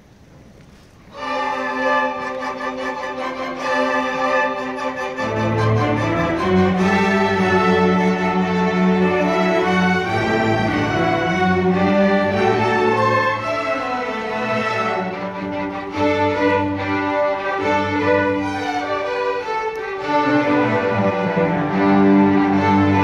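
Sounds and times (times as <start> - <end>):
string orchestra playing: 1.0 - 23.0.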